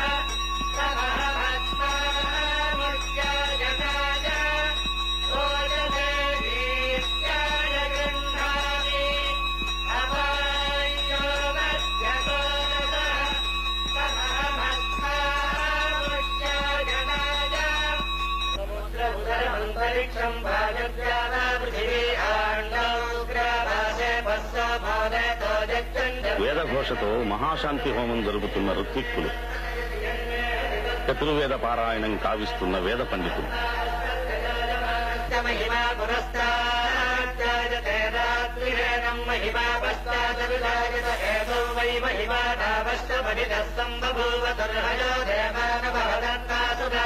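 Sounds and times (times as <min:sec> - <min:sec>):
low steady hum: 0:00.0 - 0:47.0
priests chanting: 0:00.0 - 0:47.0.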